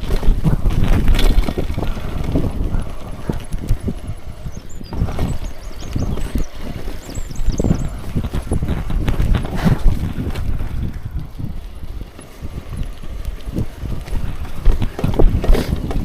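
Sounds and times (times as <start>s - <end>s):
mountain bike rattling over rocks: 0.0s - 16.0s
wind on microphone: 0.0s - 16.0s.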